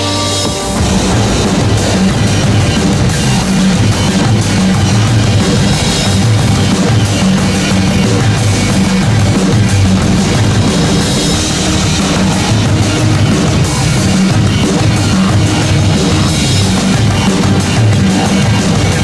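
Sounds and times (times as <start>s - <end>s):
rock music with drum kit: 0.0s - 19.0s.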